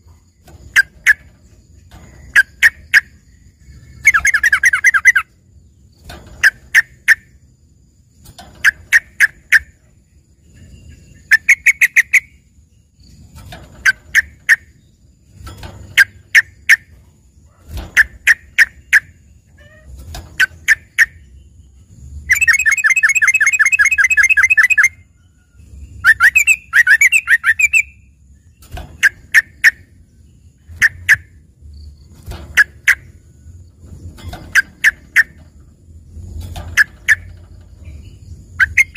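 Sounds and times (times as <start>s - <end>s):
bulbul singing: 0.1s - 7.4s, 8.2s - 38.9s.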